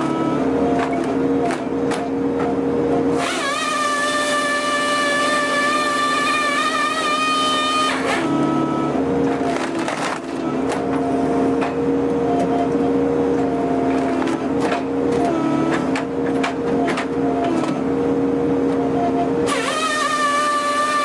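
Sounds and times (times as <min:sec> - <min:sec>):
engine and hydraulics running: 0:00.0 - 0:21.0
saw cutting log with whine: 0:00.0 - 0:21.0.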